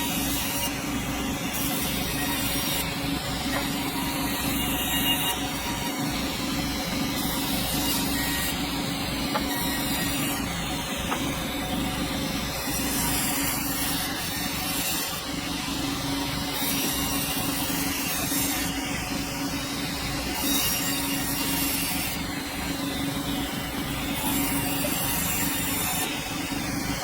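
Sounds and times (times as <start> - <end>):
saw blade cutting log: 0.0 - 15.3, 16.2 - 18.9, 20.2 - 27.0
sawmill hum: 0.0 - 27.0.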